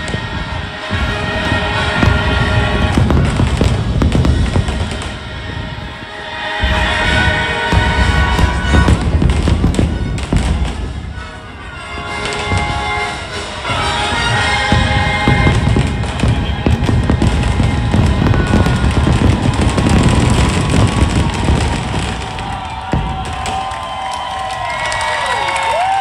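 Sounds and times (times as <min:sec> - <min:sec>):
music playing: 0:00.0 - 0:23.8
fireworks booming and crackling: 0:00.0 - 0:26.0.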